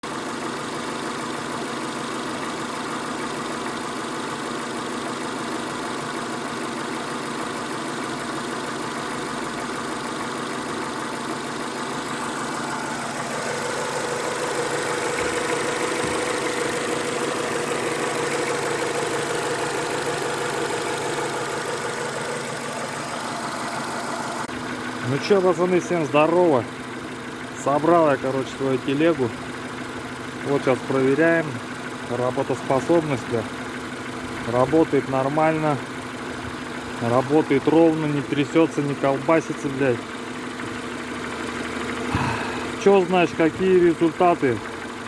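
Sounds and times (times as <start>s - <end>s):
car engine idling: 0.0s - 45.0s
dull engine knocking: 0.0s - 45.0s.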